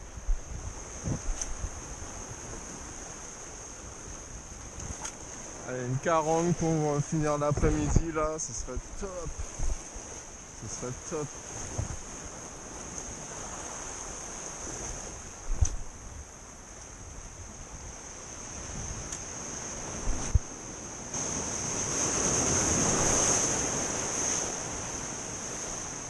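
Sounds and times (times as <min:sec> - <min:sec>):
high insect trill: 0:00.0 - 0:26.0
sea surf washing in: 0:00.0 - 0:26.0.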